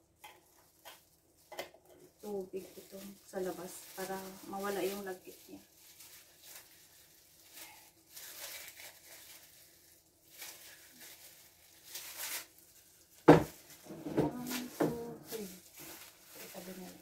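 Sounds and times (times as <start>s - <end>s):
soft rustling: 0.4s - 17.0s.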